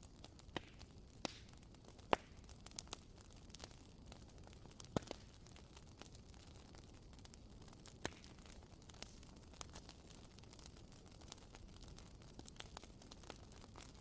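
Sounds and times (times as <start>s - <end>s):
wooden candle wick crackling: 0.0s - 14.0s.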